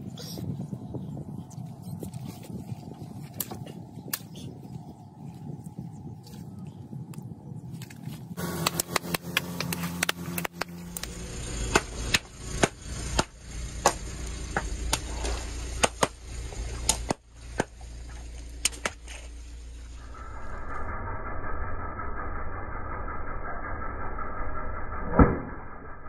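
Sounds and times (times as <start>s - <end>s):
car rumble: 0.0s - 26.0s.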